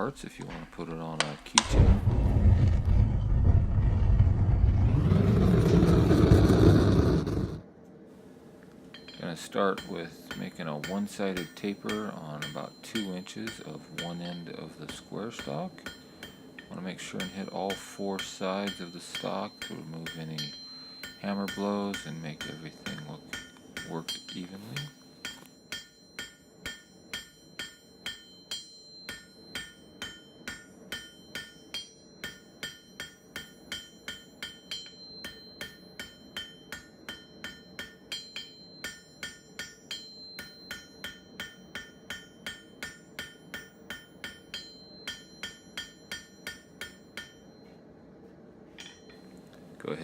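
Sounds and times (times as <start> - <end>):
hammer striking steel on anvil: 0.4 - 2.0, 8.9 - 47.8, 48.7 - 49.3.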